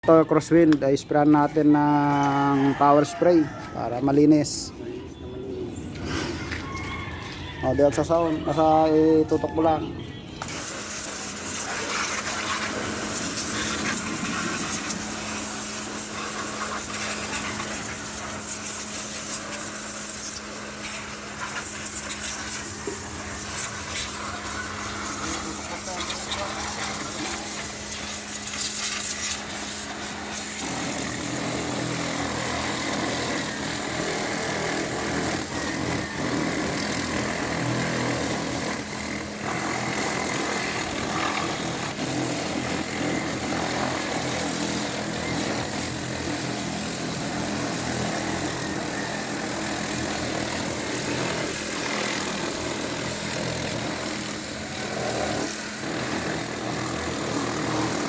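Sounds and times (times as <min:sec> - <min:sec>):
pressure washer jet hissing: 0:10.4 - 0:58.0.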